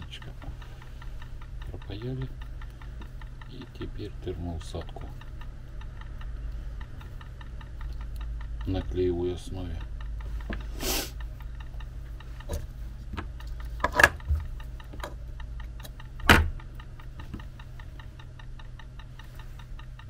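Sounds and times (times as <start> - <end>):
fast even ticking: 0.0 - 20.0
sharp clicks: 0.0 - 20.0
steady low hum: 0.0 - 20.0.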